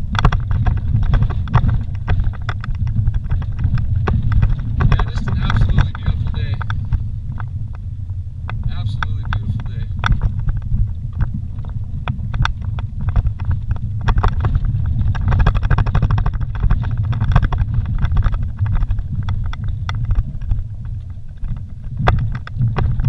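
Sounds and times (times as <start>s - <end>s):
stones clicking and knocking: 0.0s - 7.5s, 8.5s - 23.0s
engine and tyre rumble: 0.0s - 23.0s.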